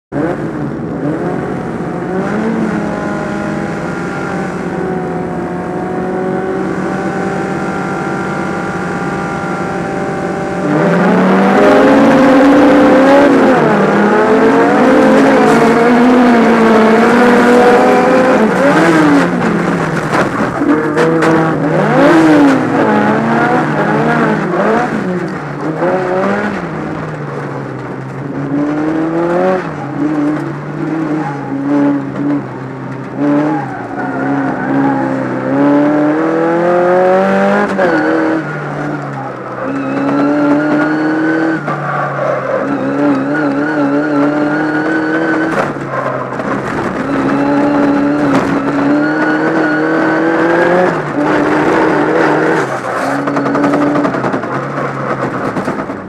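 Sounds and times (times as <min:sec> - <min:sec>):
race car engine revving: 0:00.1 - 0:56.0.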